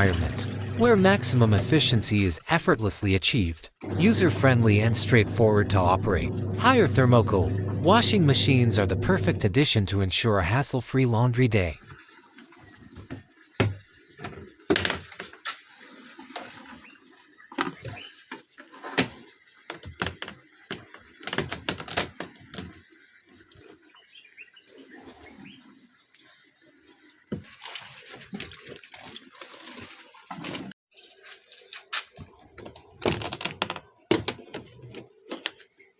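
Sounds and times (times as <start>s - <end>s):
water sloshing and splashing: 0.0s - 10.1s, 11.8s - 35.8s.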